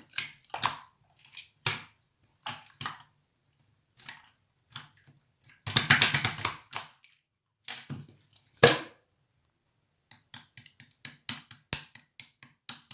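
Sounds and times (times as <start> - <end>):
slime squishing with wet clicks: 0.0 - 3.2, 3.9 - 8.6, 10.0 - 12.9.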